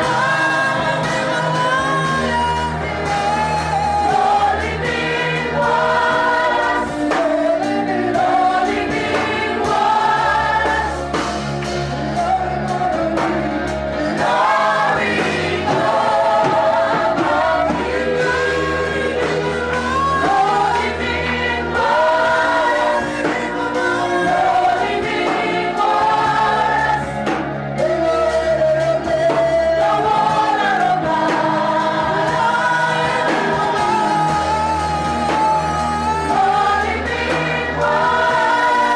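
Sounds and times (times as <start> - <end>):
bass and keyboard accompaniment: 0.0 - 38.9
choir singing worship song: 0.0 - 38.9.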